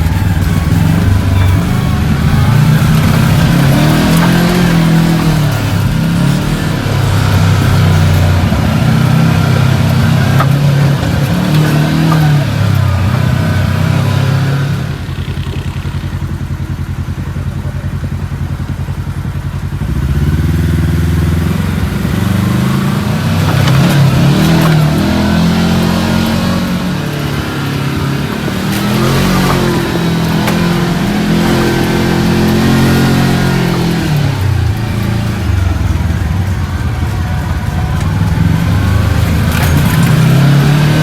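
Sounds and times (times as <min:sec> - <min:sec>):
engine revving: 0:00.0 - 0:41.0.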